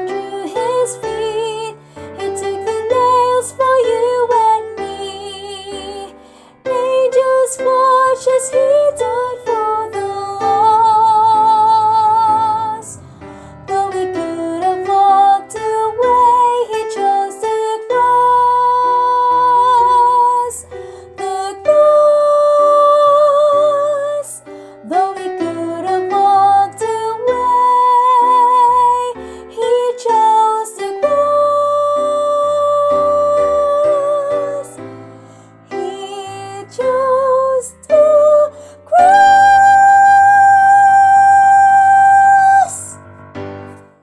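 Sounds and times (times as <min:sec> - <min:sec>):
soprano singing with vibrato: 0:00.0 - 0:13.0, 0:13.6 - 0:34.9, 0:35.7 - 0:43.0
piano accompaniment: 0:00.0 - 0:44.0.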